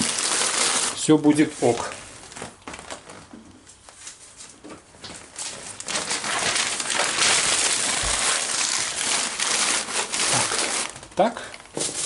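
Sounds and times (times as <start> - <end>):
newspaper crumpling: 0.0 - 3.2, 3.8 - 12.0.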